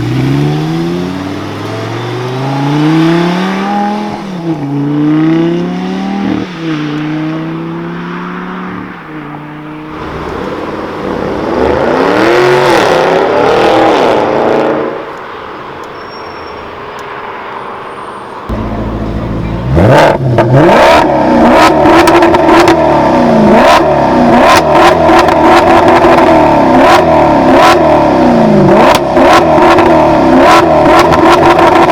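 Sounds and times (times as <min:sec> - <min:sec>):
sports car engine accelerating: 0:00.0 - 0:15.0, 0:18.5 - 0:31.9.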